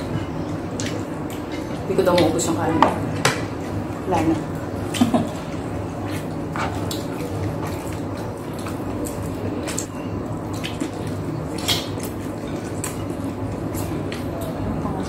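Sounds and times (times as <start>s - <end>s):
wet chewing: 0.0s - 2.4s, 3.5s - 15.0s
low steady hum: 0.0s - 15.0s.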